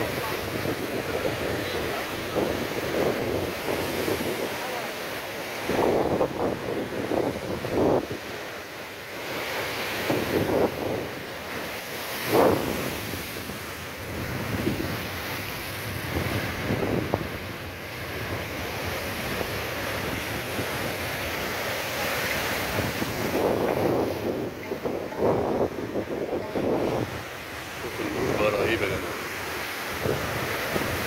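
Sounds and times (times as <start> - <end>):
storm waves crashing on rocks: 0.0 - 31.0
wind buffeting the microphone: 0.0 - 31.0.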